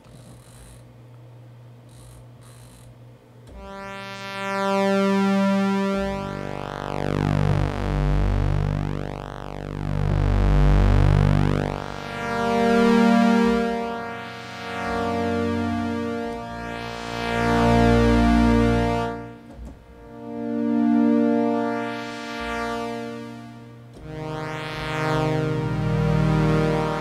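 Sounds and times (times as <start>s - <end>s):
synthesizer pad chord: 3.5s - 27.0s.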